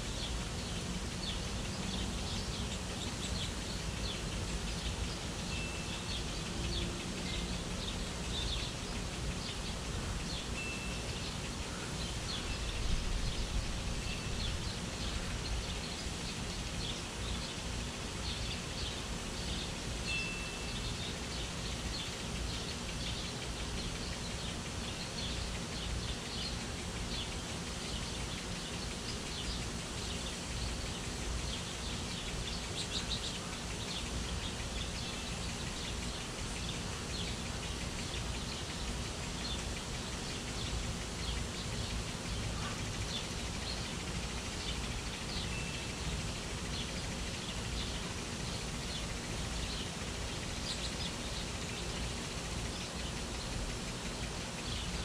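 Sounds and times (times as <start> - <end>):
background hiss and rumble: 0.0 - 55.0
small birds chirping: 0.0 - 55.0.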